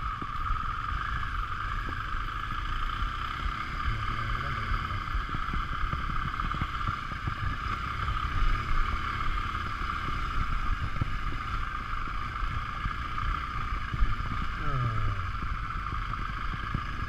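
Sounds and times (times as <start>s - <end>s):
motorcycle rumble: 0.0s - 17.0s.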